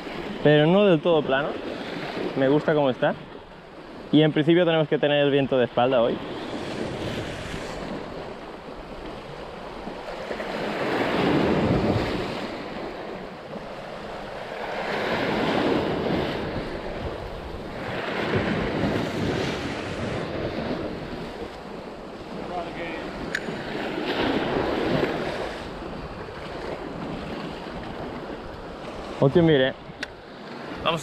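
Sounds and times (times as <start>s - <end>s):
waves washing against rocks: 5.6s - 31.0s
wind buffeting microphone: 5.6s - 31.0s.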